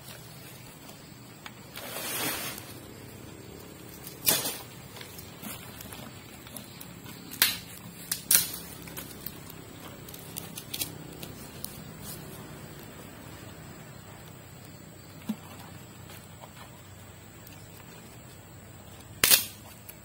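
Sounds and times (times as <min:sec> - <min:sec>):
low steady background noise: 0:00.0 - 0:20.0
wood fire crackling: 0:00.0 - 0:20.0.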